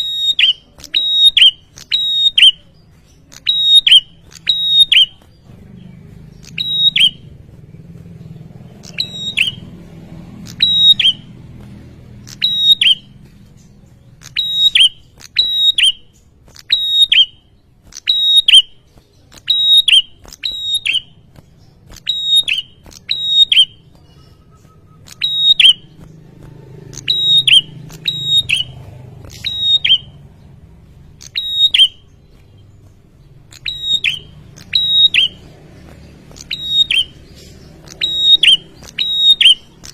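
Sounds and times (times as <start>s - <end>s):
bird calling with sharp chirps: 0.0s - 39.9s.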